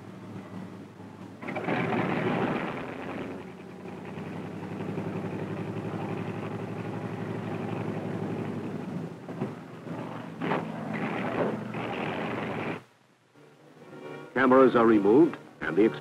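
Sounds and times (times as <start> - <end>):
propeller plane engine idling: 0.0 - 12.9.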